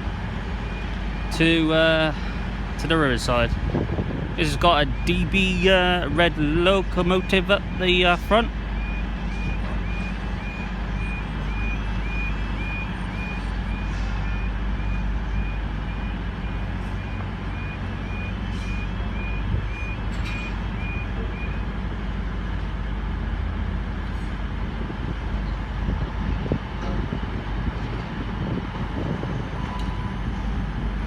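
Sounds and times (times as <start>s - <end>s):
diesel locomotive rumbling: 0.0s - 31.0s.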